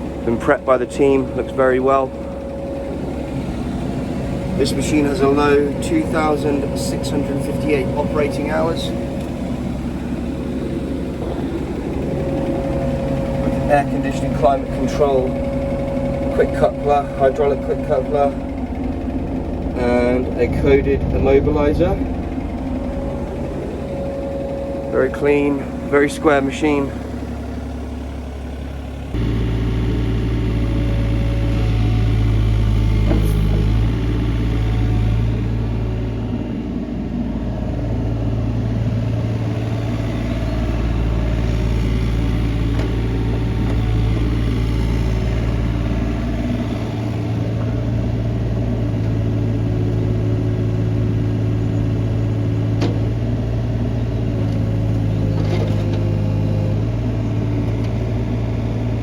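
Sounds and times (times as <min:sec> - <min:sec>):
diesel excavator engine running: 0:00.0 - 0:59.0.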